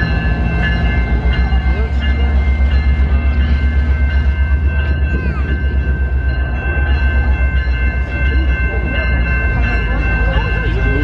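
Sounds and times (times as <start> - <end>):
diesel locomotive throbbing: 0.0 - 11.0.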